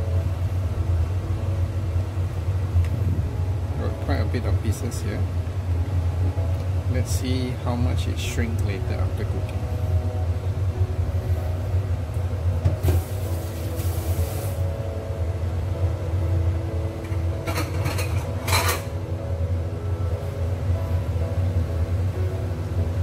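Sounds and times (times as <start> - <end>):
electric cooktop humming: 0.0 - 23.0.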